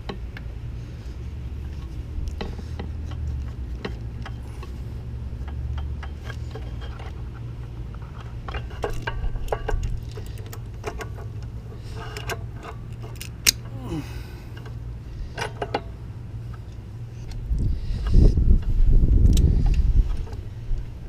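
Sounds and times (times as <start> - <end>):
steady low hum: 0.0 - 21.0
light clicks and taps on parts: 1.6 - 13.8, 14.5 - 20.9.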